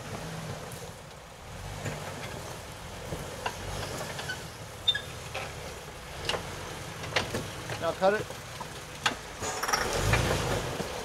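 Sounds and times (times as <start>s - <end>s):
engine rumbling: 0.0s - 11.0s
stones crunching under tyres: 0.0s - 11.0s.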